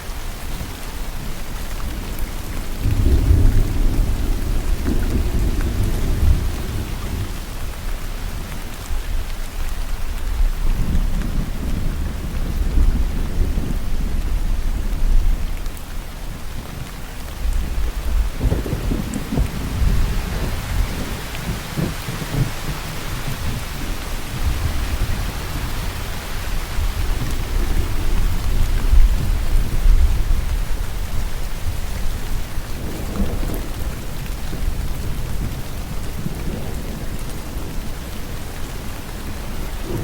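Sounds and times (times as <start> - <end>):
steady rain falling: 0.0 - 40.0
low rolling thunder: 1.3 - 8.6, 10.2 - 40.0.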